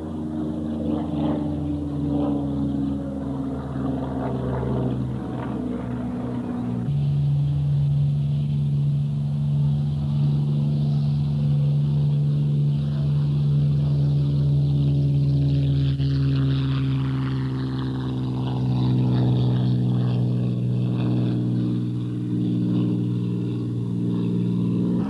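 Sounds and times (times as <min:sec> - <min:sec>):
piston aircraft engine droning: 0:00.0 - 0:25.0.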